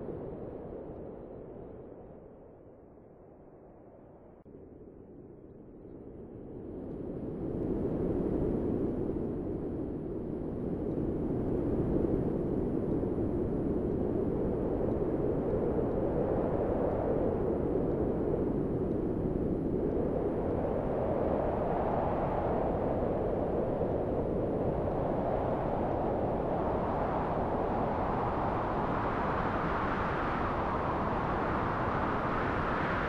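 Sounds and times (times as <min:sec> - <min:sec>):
low rush of wind: 0:00.0 - 0:33.0.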